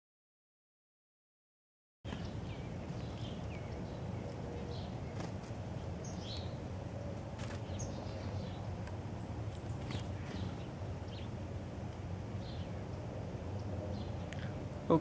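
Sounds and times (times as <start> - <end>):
outdoor background noise: 2.1 - 15.0
songbirds chirping: 2.1 - 15.0.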